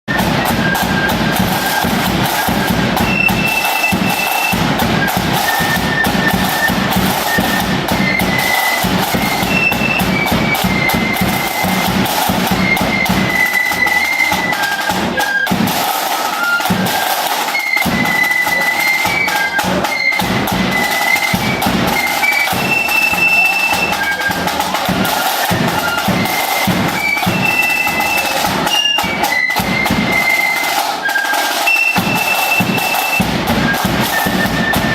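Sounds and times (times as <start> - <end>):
high flute melody: 0.1 - 34.9
snare and bass drums: 0.1 - 34.9.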